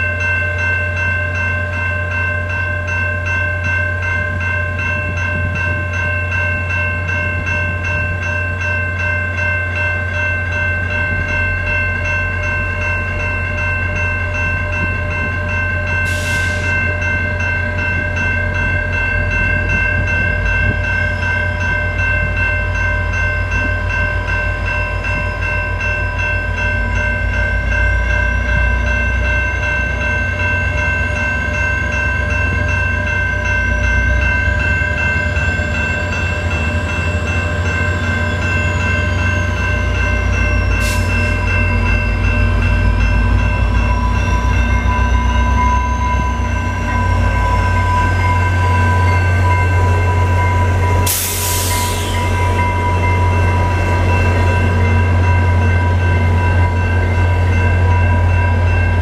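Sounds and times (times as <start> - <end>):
diesel locomotive rumble: 0.0 - 59.0
level-crossing warning bell ringing: 0.0 - 59.0.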